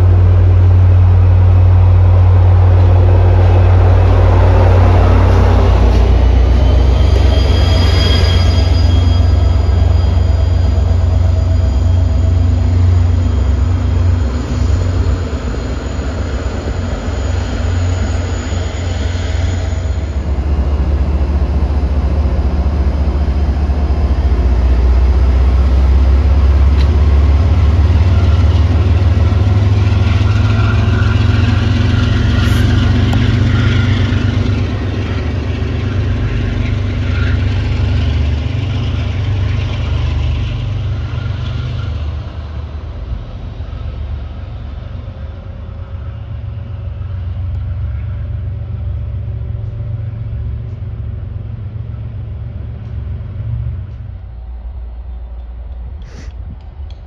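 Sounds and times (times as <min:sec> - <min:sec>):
diesel locomotive engine rumbling: 0:00.0 - 0:57.0.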